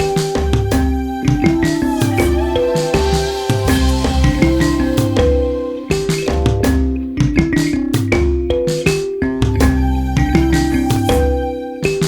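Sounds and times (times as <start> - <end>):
mallet-like notes: 0.0 - 12.0
steady drum beat: 0.0 - 12.0
deep bass: 0.5 - 8.6, 9.3 - 11.6.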